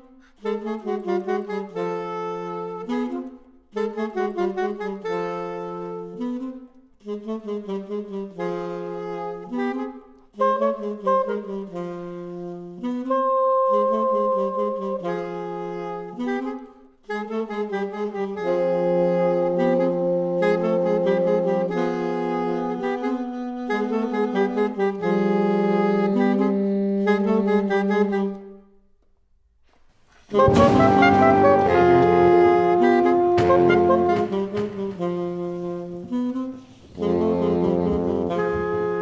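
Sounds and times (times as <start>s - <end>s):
saxophone quartet playing: 0.0s - 28.7s, 30.1s - 39.0s.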